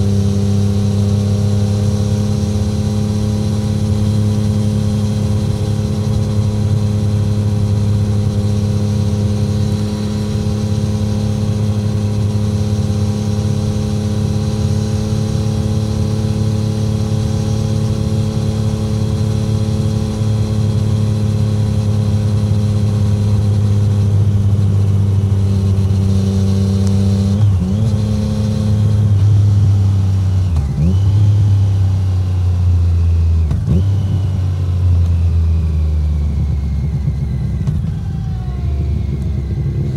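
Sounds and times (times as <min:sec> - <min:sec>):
downshifts with throttle blips: 0:00.0 - 0:39.9
motorcycle engine cruising: 0:00.0 - 0:39.9.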